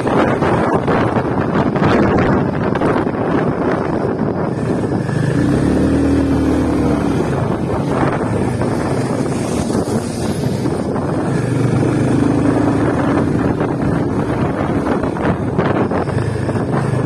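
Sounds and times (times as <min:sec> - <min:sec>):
motorcycle engine cruising: 0:00.0 - 0:17.0
wind buffeting microphone: 0:00.0 - 0:17.0.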